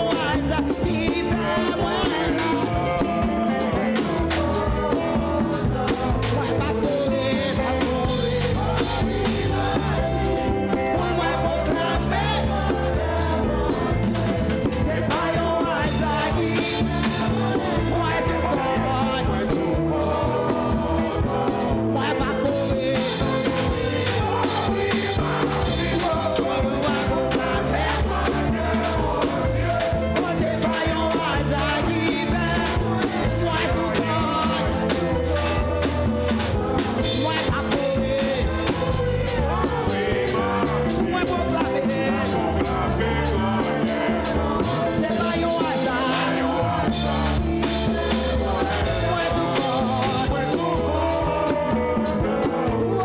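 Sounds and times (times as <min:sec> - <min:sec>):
band playing upbeat music: 0:00.0 - 0:53.0
people singing: 0:00.0 - 0:53.0.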